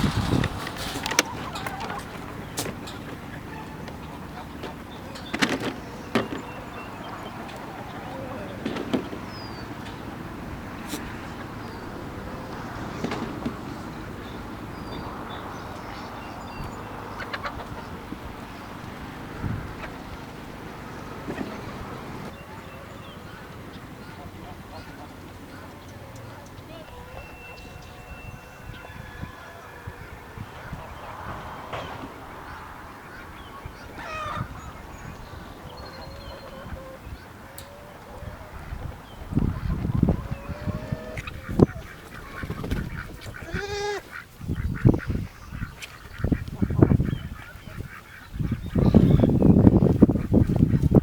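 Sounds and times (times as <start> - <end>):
waterfowl honking: 0.0 - 31.6, 32.4 - 49.6
chickens peeping and clucking: 0.0 - 51.0.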